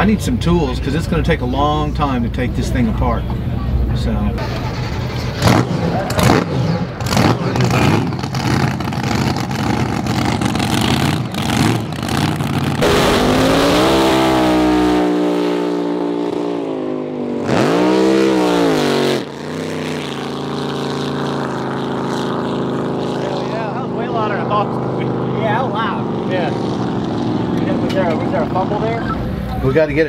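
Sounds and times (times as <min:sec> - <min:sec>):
race boat engine: 0:04.2 - 0:30.0.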